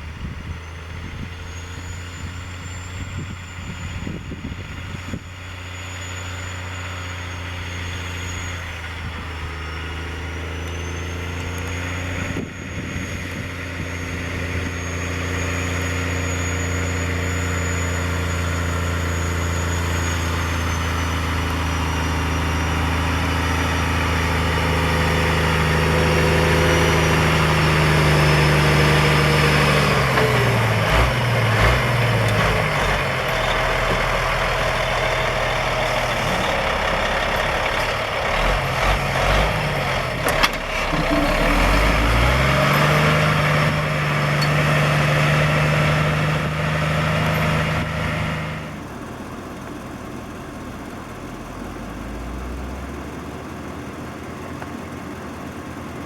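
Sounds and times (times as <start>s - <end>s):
truck diesel engine running hard: 0.0s - 56.0s.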